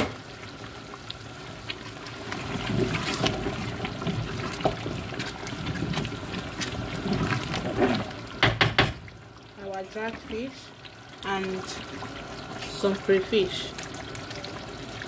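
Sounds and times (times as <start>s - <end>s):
stew bubbling and sloshing: 0.0s - 15.0s.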